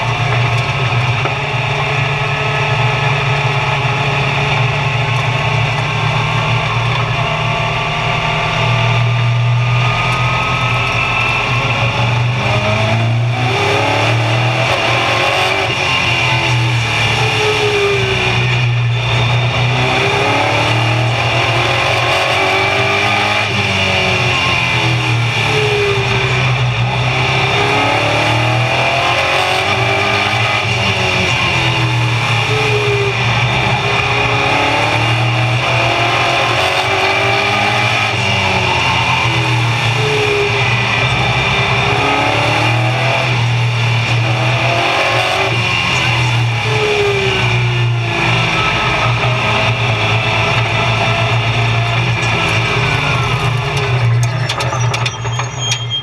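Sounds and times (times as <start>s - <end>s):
race car engine drone: 0.0s - 56.0s.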